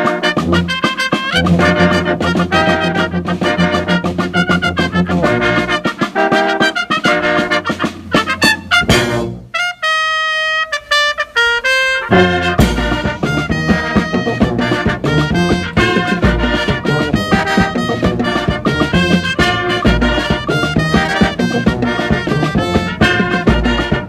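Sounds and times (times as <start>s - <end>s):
brass-led instrumental music: 0.0s - 24.0s.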